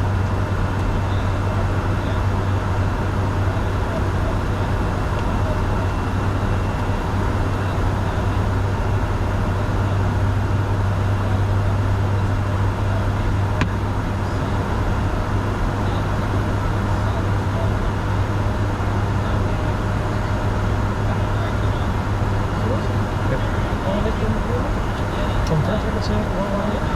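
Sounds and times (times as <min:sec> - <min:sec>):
jet engine hum: 0:00.0 - 0:26.9.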